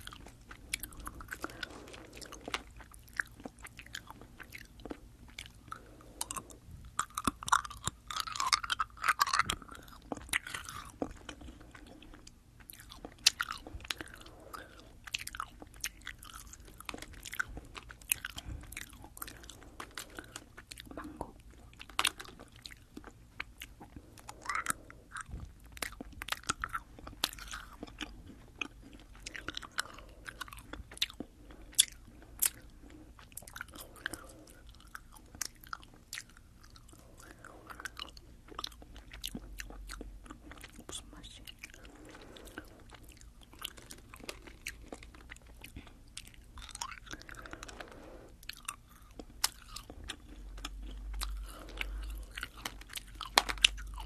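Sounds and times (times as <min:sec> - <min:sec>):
chewing gummy candy: 0:00.0 - 0:54.0.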